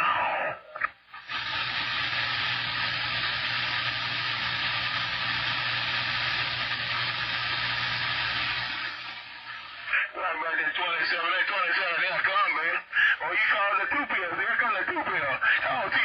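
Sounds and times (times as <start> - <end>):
radio static hiss: 0.6 - 16.0.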